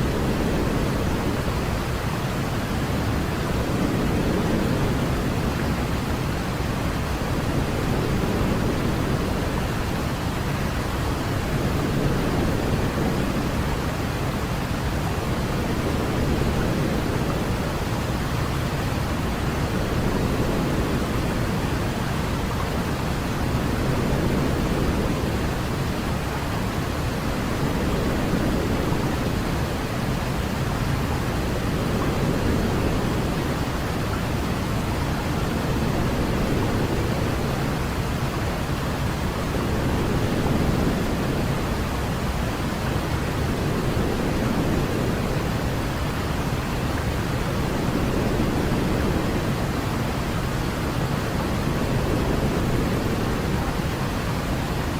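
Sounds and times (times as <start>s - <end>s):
white noise rushing hiss: 0.0s - 54.9s.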